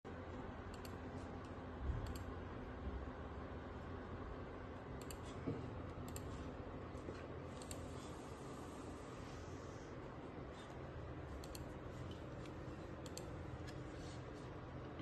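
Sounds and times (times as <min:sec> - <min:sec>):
dehumidifier fan hum: 0:00.1 - 0:15.0.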